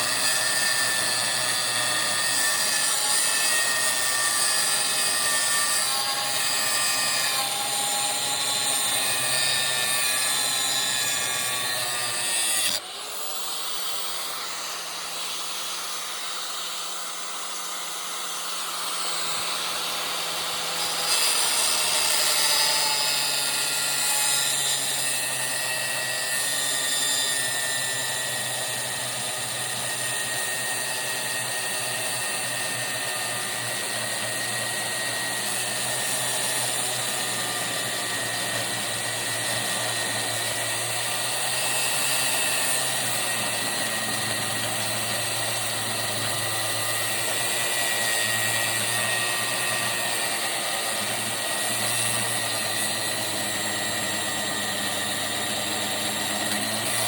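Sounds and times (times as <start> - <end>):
angle grinder cutting metal: 0.0 - 57.0.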